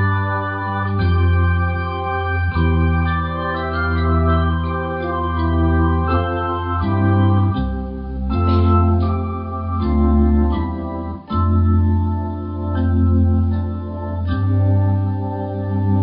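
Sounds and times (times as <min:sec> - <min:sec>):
bass guitar line: 0:00.0 - 0:16.0
organ-like keyboard chords: 0:00.0 - 0:16.0.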